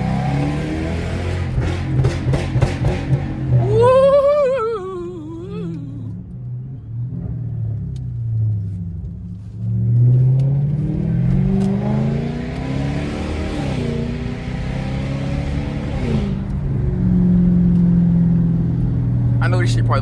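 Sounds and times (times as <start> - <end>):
car engine accelerating: 0.0 - 4.2, 5.4 - 19.8.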